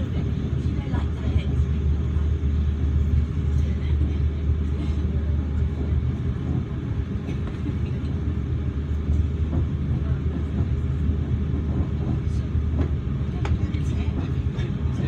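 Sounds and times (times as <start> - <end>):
train rumble from inside carriage: 0.0 - 15.0.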